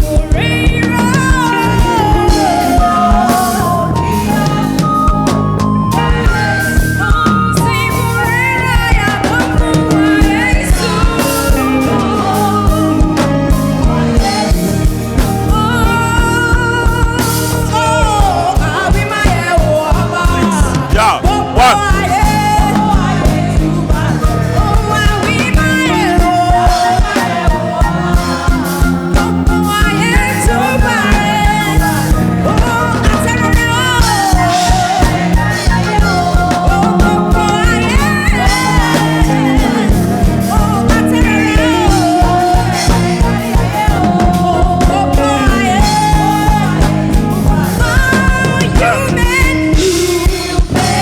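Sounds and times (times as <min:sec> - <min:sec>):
choir singing: 0:00.0 - 0:51.0
live band playing: 0:00.0 - 0:51.0
steady drumbeat: 0:00.0 - 0:51.0.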